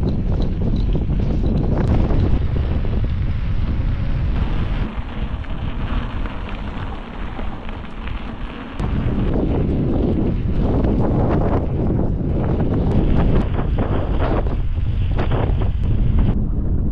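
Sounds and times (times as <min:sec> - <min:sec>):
tyres rumbling on rough track: 0:00.0 - 0:16.4
wind buffeting microphone: 0:00.0 - 0:16.9.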